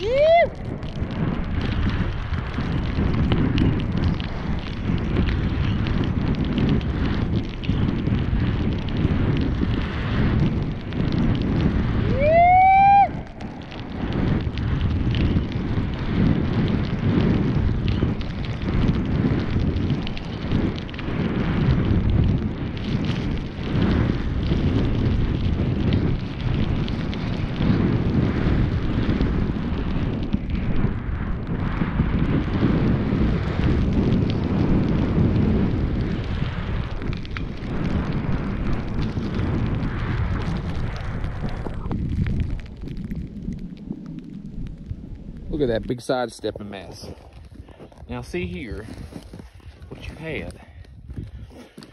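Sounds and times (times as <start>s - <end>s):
wind buffeting microphone: 0.0s - 51.9s
snowboard sliding through snow: 1.2s - 44.7s, 45.5s - 51.9s.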